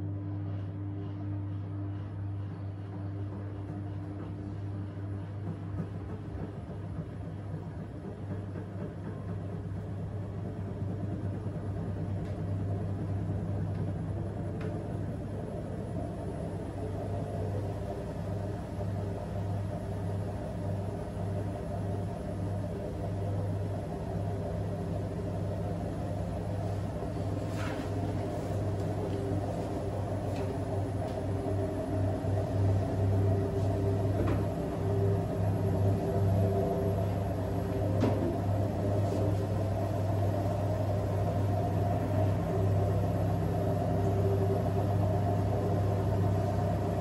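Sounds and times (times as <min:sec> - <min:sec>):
washing machine spinning: 0:00.0 - 0:47.0.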